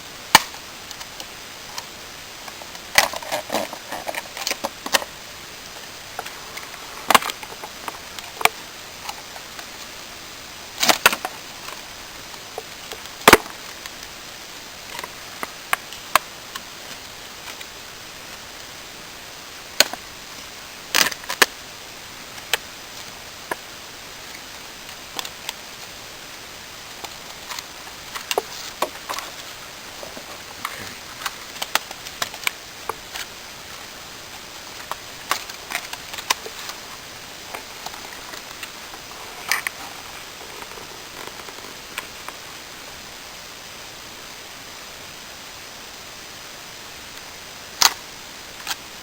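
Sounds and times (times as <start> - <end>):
steady hiss: 0.0 - 49.0.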